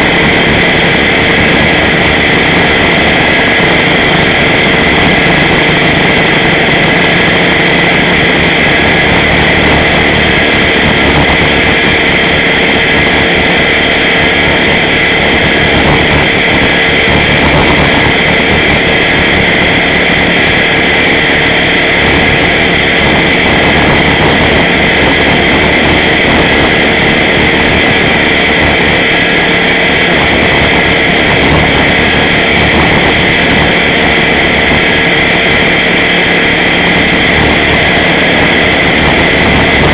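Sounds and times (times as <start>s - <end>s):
rc helicopter motor whine: 0.0s - 39.9s
rotor rushing: 0.0s - 39.9s.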